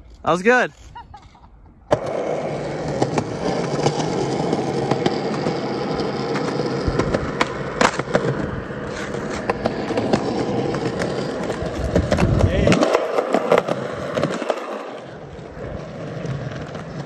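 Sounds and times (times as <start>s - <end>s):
skateboard wheels rolling on concrete: 0.0s - 17.0s.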